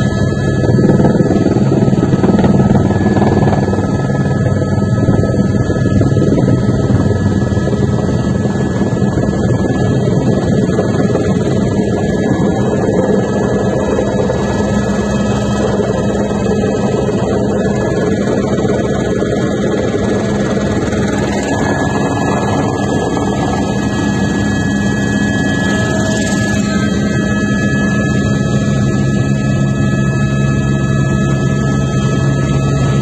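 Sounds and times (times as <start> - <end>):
helicopter engine and rotor noise: 0.0 - 33.0
high whine: 0.0 - 33.0.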